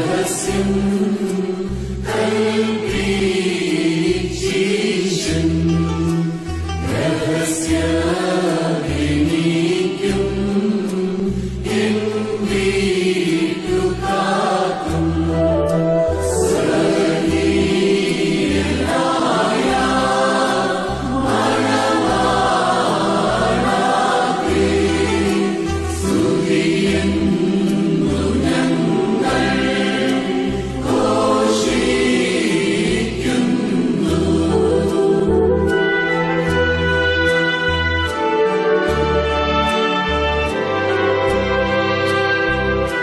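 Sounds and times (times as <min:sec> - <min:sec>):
instrumental backing with bass: 0:00.0 - 0:43.0
voices singing a hymn: 0:00.0 - 0:43.0.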